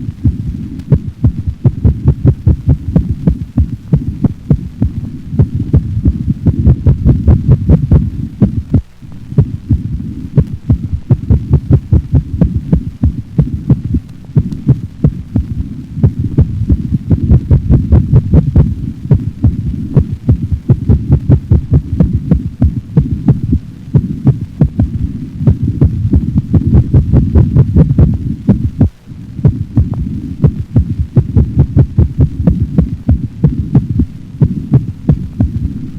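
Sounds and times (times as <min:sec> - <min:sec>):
steady low rumble: 0:00.0 - 0:35.9
dog heartbeat through stethoscope: 0:00.2 - 0:08.8, 0:09.4 - 0:14.0, 0:14.7 - 0:35.8.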